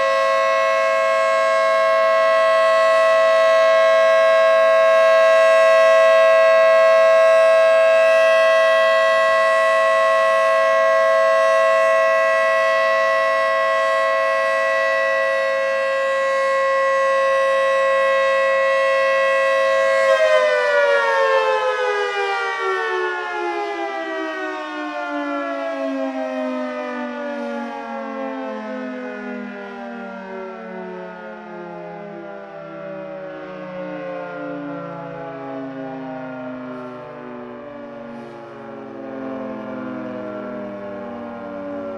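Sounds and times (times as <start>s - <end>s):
two-tone mechanical siren: 0.0s - 41.9s.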